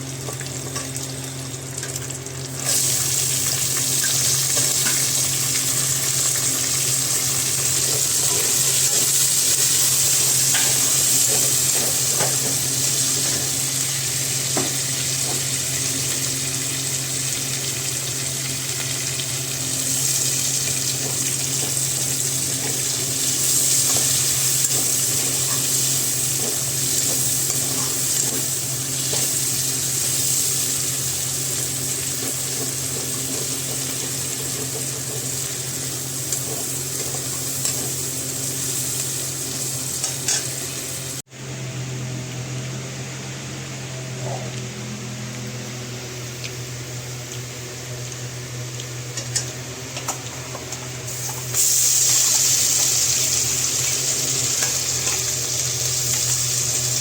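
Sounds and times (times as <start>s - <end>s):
chicken sizzling in a pan: 0.0s - 57.0s.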